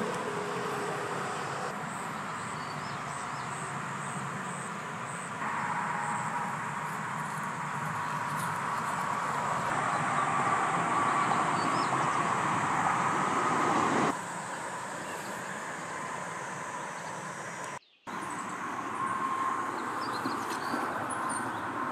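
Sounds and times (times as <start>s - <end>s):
pulsing insect call: 0.0s - 21.8s.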